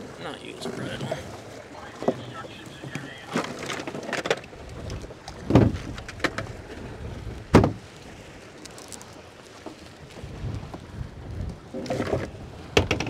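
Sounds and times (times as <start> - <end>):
water splashing against boat: 0.0 - 13.0
wind: 0.0 - 13.0.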